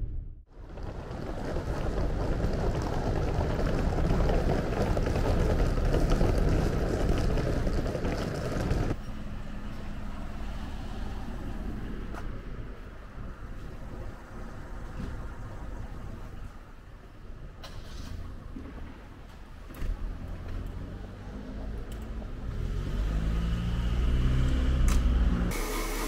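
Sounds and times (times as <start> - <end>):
passing cars: 0.5 - 25.6.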